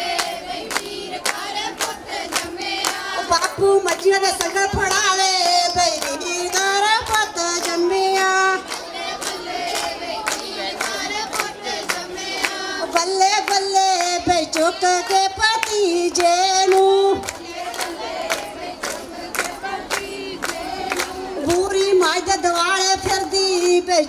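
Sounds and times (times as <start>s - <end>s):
hands clapping in rhythm: 0.0s - 24.0s
women singing in chorus: 0.0s - 24.0s.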